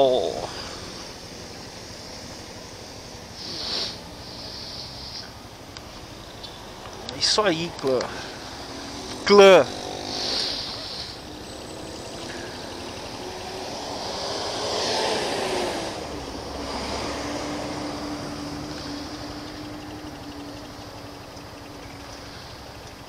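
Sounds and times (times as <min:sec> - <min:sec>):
city traffic hum: 0:00.0 - 0:23.0
motorcycle engine idling: 0:00.0 - 0:23.0.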